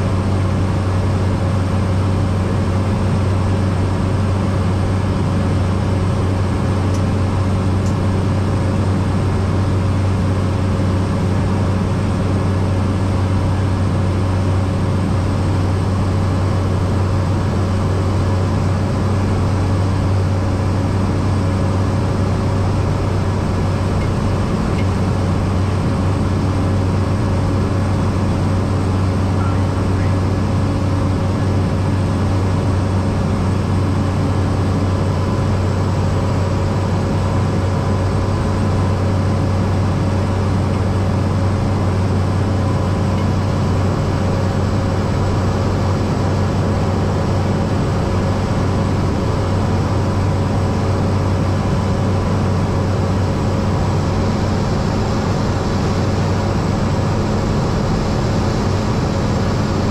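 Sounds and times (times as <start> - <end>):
turboprop engine droning in flight: 0.0 - 59.9.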